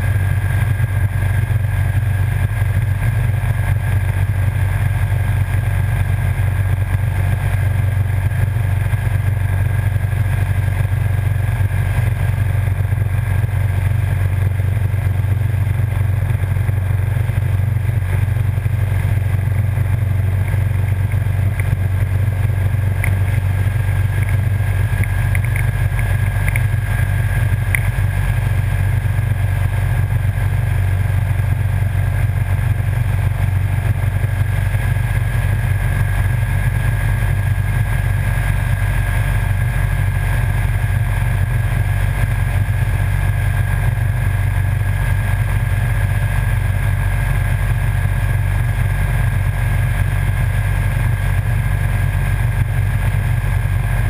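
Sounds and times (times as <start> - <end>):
motorcycle engine drone: 0.0 - 54.0
wind and road noise: 0.0 - 54.0.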